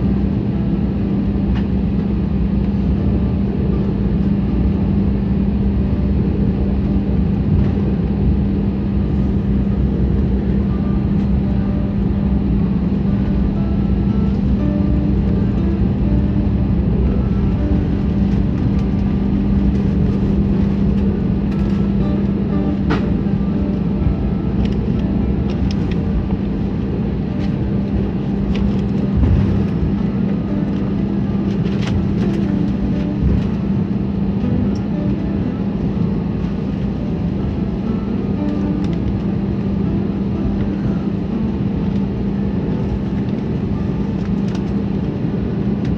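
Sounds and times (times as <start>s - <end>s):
jet engines roaring in cabin: 0.0s - 45.9s.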